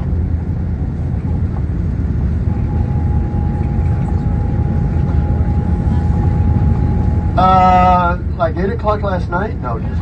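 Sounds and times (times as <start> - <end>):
bus engine and tyre rumble: 0.0 - 10.0
thin steady whine: 0.0 - 10.0.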